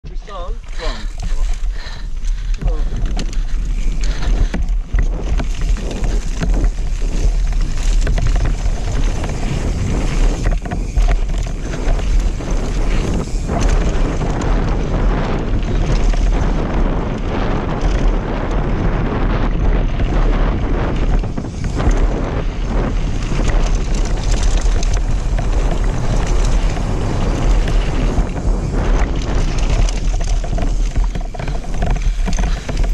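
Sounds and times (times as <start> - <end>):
wind buffeting microphone: 0.0 - 32.9
bike tyres rattling over gravel: 0.1 - 32.9.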